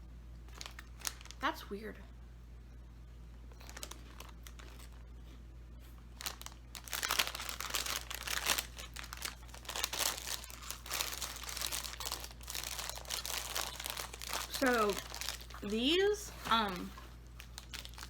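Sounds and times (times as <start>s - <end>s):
plastic snack bag crinkling: 0.5s - 1.5s, 3.5s - 5.0s, 6.1s - 18.0s.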